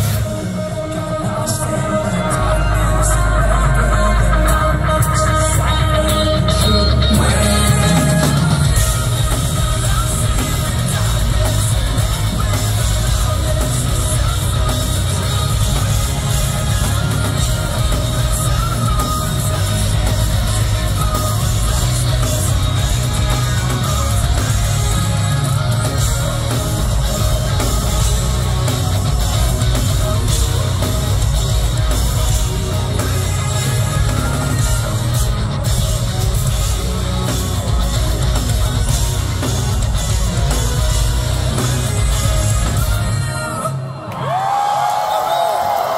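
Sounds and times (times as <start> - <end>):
bass: 0.0 - 45.9
distorted electric guitars: 0.0 - 45.9
drums: 0.0 - 45.9.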